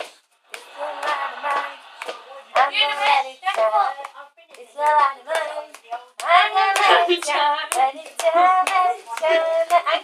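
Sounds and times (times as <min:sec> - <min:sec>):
hand claps: 0:00.0 - 0:10.0.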